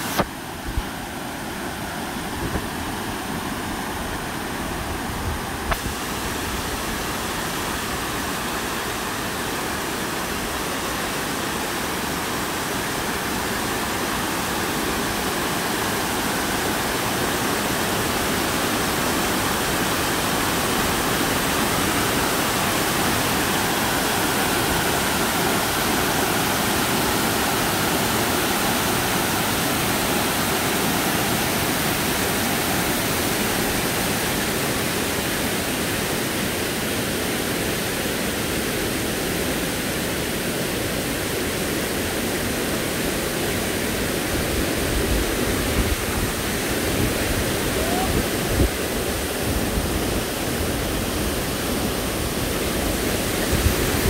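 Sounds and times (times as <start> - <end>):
waterfall rushing over rock: 0.0 - 54.0.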